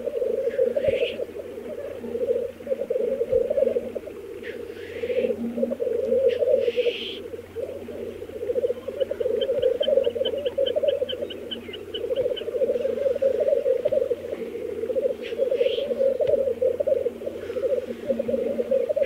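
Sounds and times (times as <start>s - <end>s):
black grouse bubbling display song: 0.0s - 19.0s.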